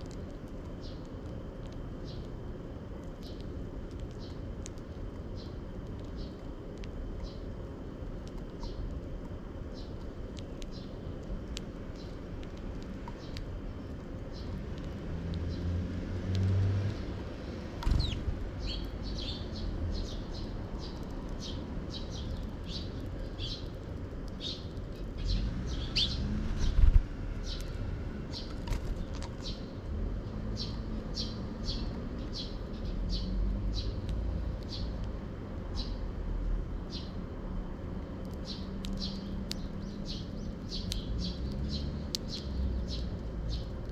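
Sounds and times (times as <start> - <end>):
sparrows chirping: 0.0 - 1.2, 1.9 - 2.4, 3.2 - 4.6, 5.2 - 7.6, 8.4 - 8.9, 9.6 - 35.0, 35.6 - 37.4, 38.3 - 43.9
low background rumble: 0.0 - 43.9.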